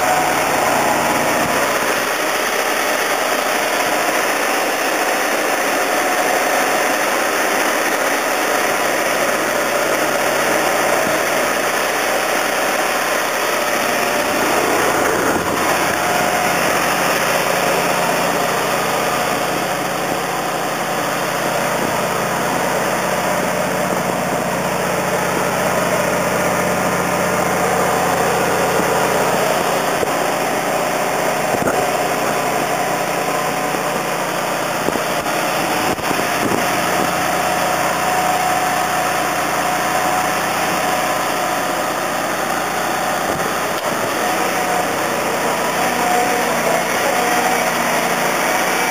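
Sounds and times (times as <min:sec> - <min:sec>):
engine-driven equipment humming: 0:00.0 - 0:48.9
deeper hum: 0:08.6 - 0:48.9.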